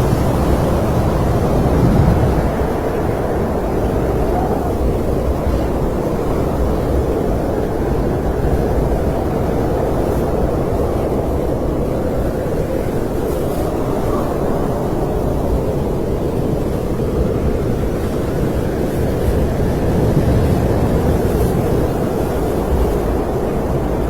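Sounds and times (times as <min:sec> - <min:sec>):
wind blowing steadily: 0:00.0 - 0:24.0.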